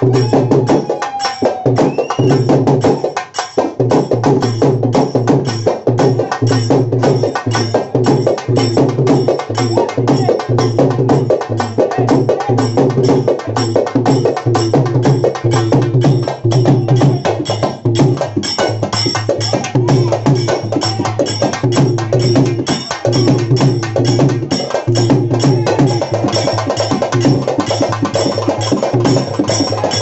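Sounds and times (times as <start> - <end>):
frame drums played fast: 0.0 - 30.0.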